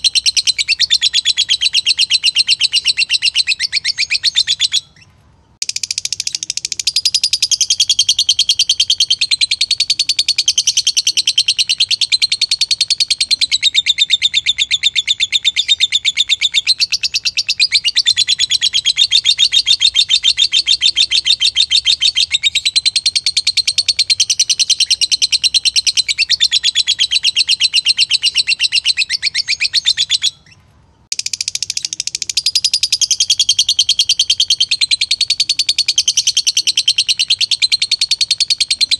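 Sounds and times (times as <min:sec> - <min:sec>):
bird chattering trill: 0:00.0 - 0:38.9.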